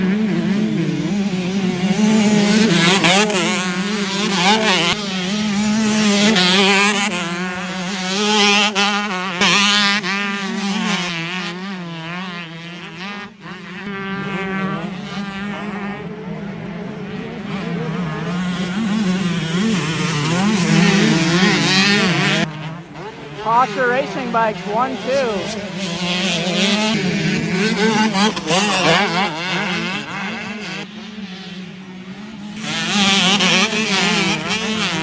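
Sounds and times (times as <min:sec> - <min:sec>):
motocross bikes revving: 0:00.0 - 0:35.0.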